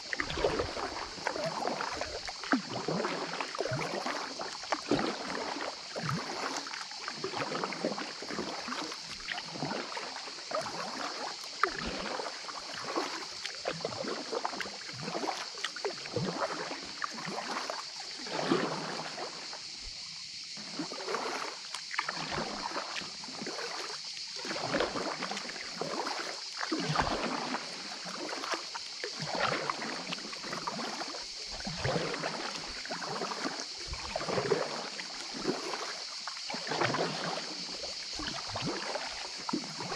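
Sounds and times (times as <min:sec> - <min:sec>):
kayak paddle splashing: 0:00.0 - 0:39.9.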